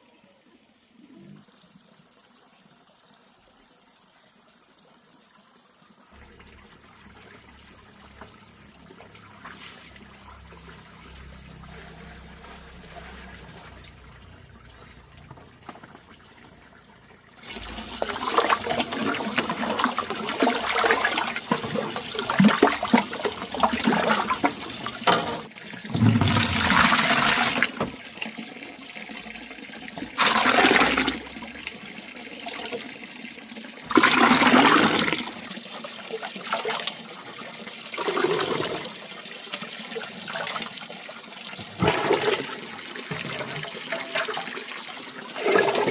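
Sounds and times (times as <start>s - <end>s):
water pouring and splashing: 6.0s - 45.9s.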